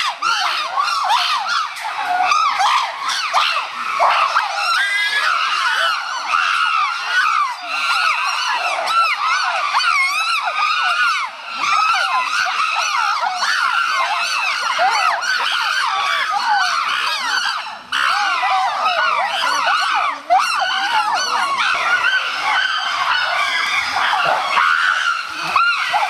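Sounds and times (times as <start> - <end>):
chimpanzees screaming: 0.0 - 26.0.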